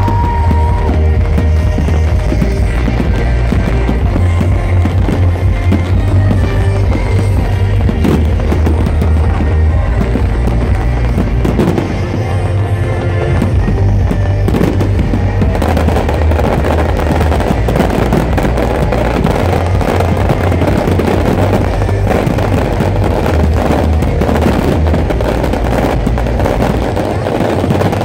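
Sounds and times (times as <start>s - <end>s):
firework shells bursting and crackling: 0.0s - 28.0s
loud music with heavy bass: 0.0s - 28.0s.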